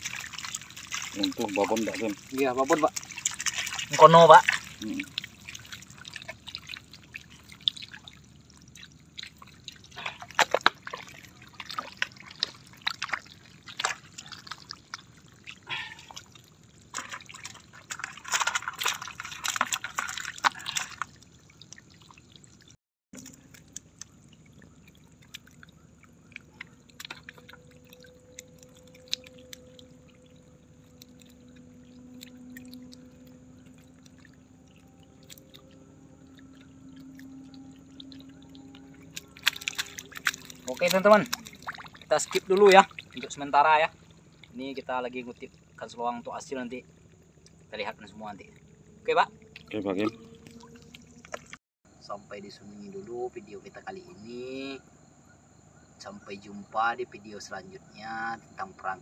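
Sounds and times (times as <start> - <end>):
fish splashing in water: 0.0 - 51.6
faint steady hum: 0.0 - 59.0.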